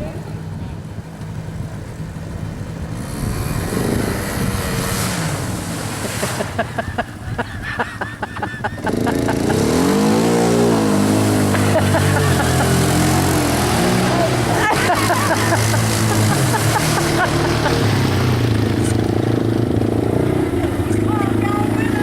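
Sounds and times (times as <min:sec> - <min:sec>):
atv engines revving: 0:00.0 - 0:22.0.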